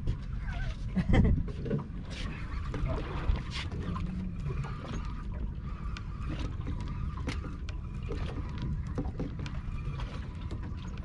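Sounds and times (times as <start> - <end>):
water lapping against boat hull: 0.0 - 11.0
wind rumbling on microphone: 0.0 - 11.0.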